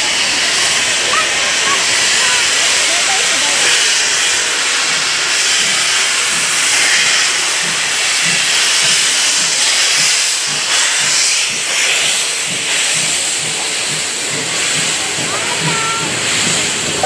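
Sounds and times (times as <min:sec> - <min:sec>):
steam hiss: 0:00.0 - 0:17.0
steam locomotive exhaust chuffs: 0:00.0 - 0:17.0.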